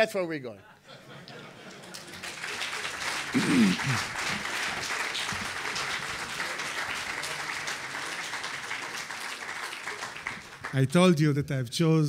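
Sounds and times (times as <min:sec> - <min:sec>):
audience applauding: 0:01.2 - 0:11.2.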